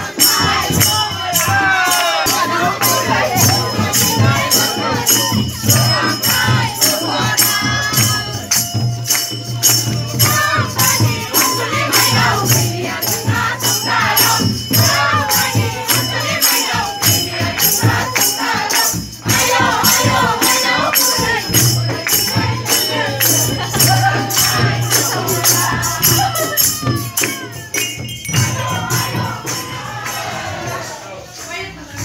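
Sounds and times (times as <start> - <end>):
fast jingling percussion beat: 0.0 - 32.0
group singing: 0.0 - 32.0.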